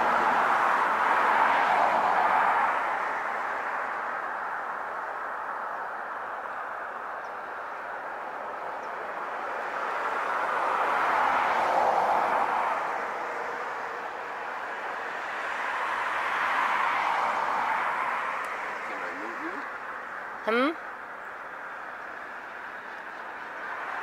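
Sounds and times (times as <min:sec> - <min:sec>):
passing vehicles hiss: 0:00.0 - 0:24.0.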